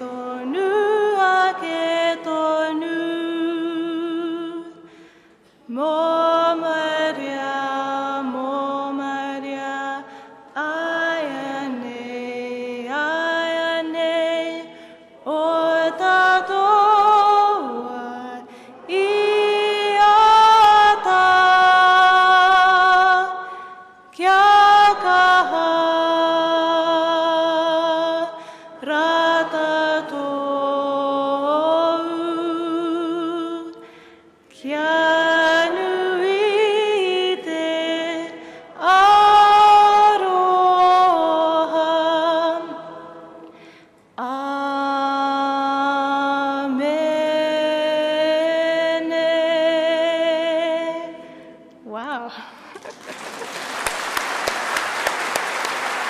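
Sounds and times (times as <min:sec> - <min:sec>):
person singing a hymn: 0:00.0 - 0:53.0.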